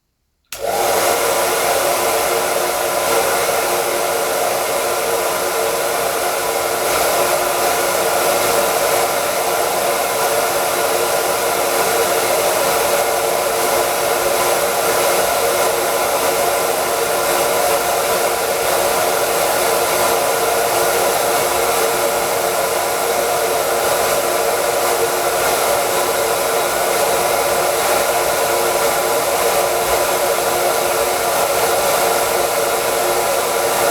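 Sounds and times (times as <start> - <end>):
hair dryer running: 0.5 - 33.9.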